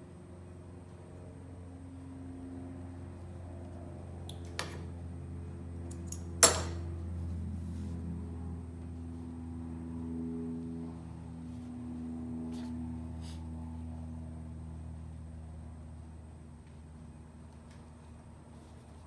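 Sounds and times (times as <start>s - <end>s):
low hum with held tones: 0.0s - 19.0s.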